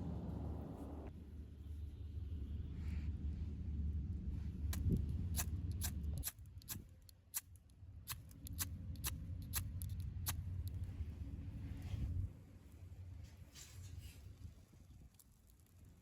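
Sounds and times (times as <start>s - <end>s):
low steady rumble: 0.0s - 6.6s, 7.7s - 14.7s.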